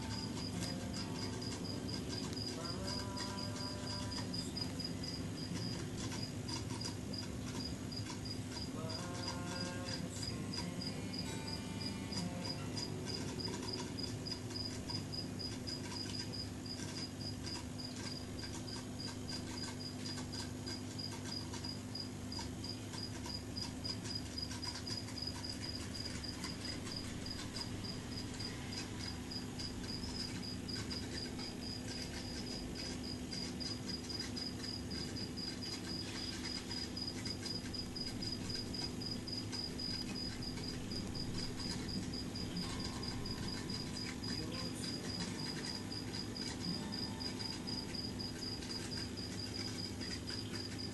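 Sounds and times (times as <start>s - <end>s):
cricket chirping: 0.0s - 50.9s
low steady hum: 0.0s - 50.9s.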